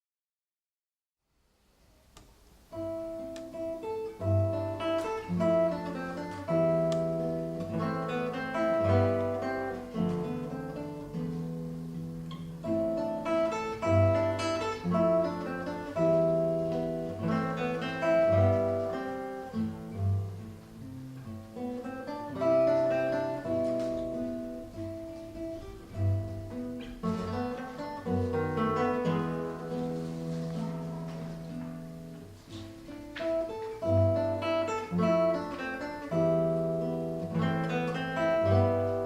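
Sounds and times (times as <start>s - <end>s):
classical guitar playing: 1.8s - 39.0s.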